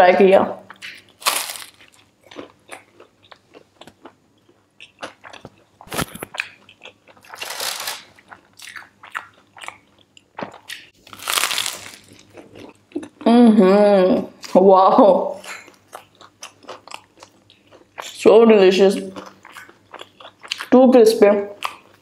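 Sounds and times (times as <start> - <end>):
crunchy food chewing: 0.6 - 13.3, 15.4 - 18.3, 19.0 - 20.8, 21.5 - 22.0.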